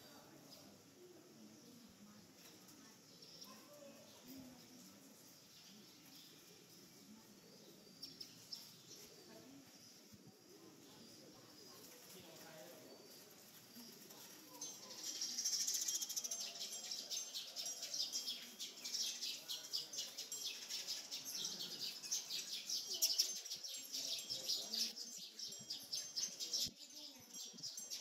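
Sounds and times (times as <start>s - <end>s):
flock of small birds chirping: 0.0s - 28.0s.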